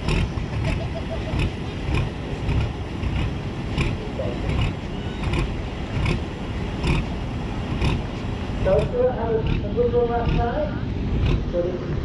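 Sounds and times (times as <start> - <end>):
tractor engine rumbling: 0.0 - 12.0
wind buffeting microphone: 0.0 - 12.0.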